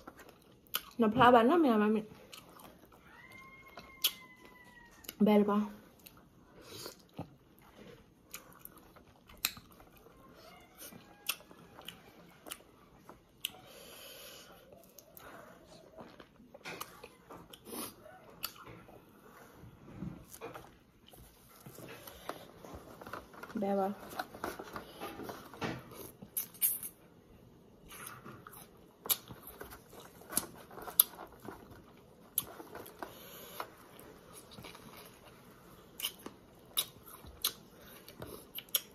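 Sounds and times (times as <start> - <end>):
crunchy fruit chewing: 5.9 - 27.0, 27.8 - 38.9.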